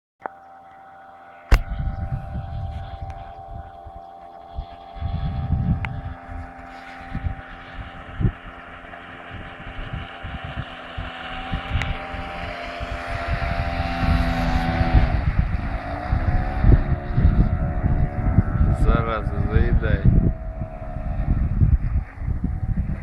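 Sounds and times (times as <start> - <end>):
outboard motor running: 0.2 - 23.0
wind buffeting microphone: 1.5 - 23.0.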